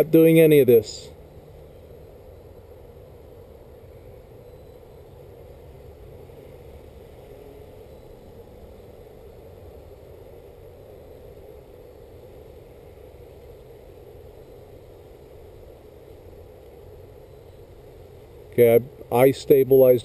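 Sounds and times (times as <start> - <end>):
drone propeller hum: 0.0 - 20.0.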